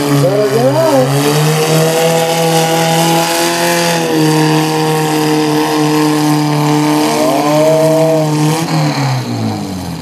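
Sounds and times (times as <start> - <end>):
tractor engine at high revs: 0.0 - 10.0.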